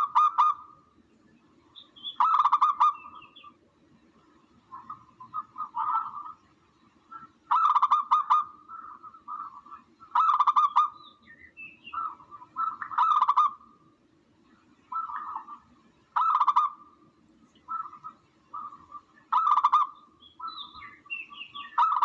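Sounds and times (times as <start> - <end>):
recorded dove calls: 0.0 - 0.9, 1.8 - 3.6, 4.6 - 13.9, 14.8 - 22.0.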